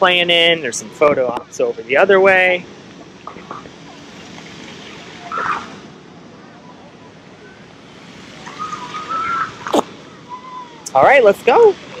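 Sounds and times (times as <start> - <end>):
distant voices: 0.0 - 12.0
fountains spraying: 0.1 - 12.0.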